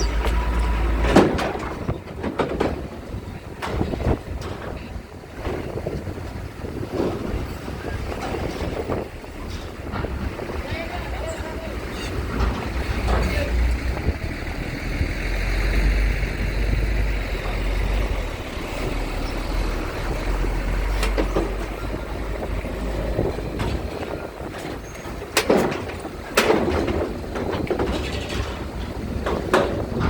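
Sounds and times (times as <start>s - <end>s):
heavy vehicle engine noise: 0.0s - 30.0s
wind buffeting microphone: 0.0s - 30.0s.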